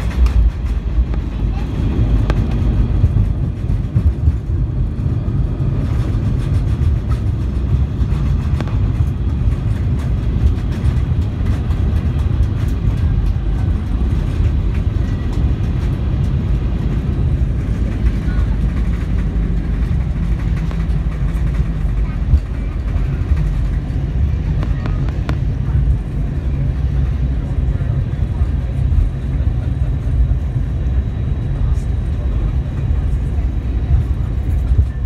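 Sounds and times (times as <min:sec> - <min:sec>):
jet engine thrust reverser rumble: 0:00.0 - 0:35.0.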